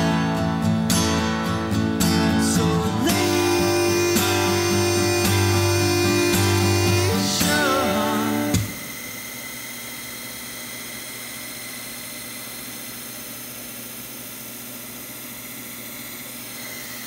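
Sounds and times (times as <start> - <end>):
drill press wire wheel whirring: 2.2 - 17.0.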